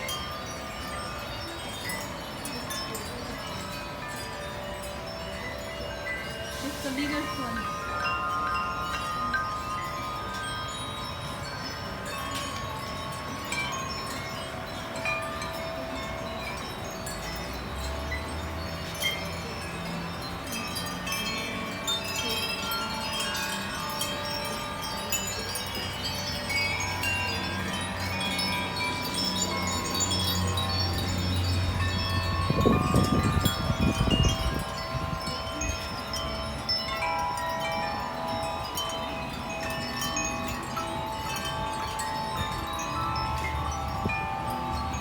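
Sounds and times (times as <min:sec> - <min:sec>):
wind chimes ringing: 0:00.0 - 0:45.0.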